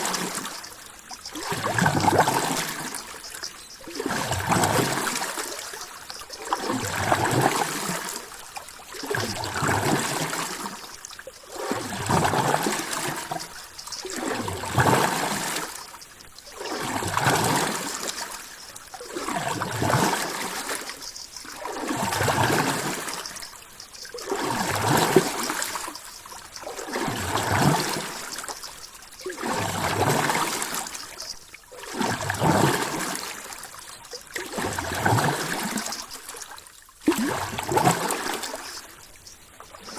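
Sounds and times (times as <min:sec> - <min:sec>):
ocean water: 0:00.0 - 0:39.9.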